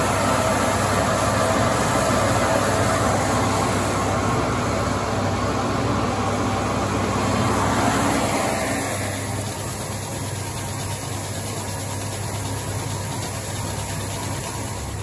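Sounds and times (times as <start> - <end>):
tractor engine: 0.0 - 15.0.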